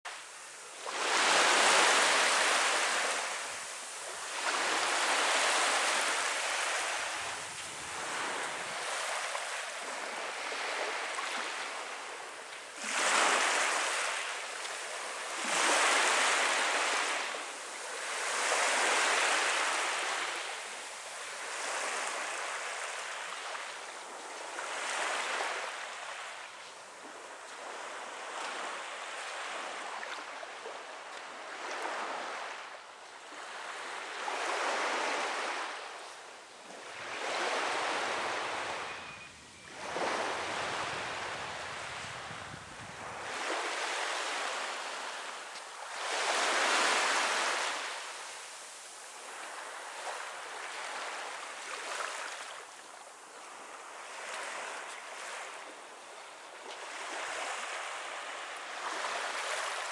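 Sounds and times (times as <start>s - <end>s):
small waves breaking on beach: 0.1s - 59.9s.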